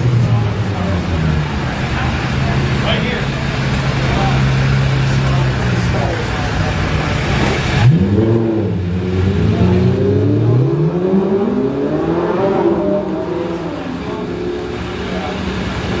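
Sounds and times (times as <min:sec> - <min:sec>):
street noise: 0:00.0 - 0:16.0
vehicle engine accelerating: 0:00.0 - 0:16.0.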